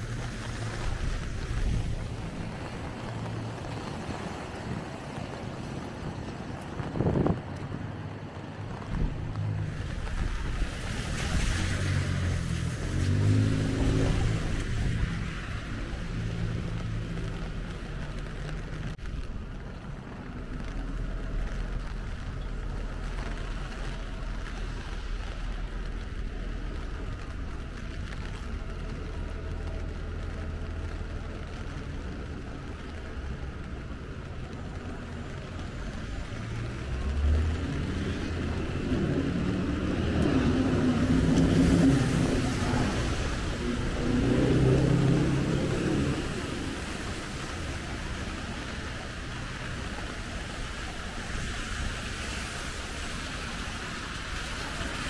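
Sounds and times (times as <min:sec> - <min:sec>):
low rumble of traffic: 0:00.0 - 0:55.0.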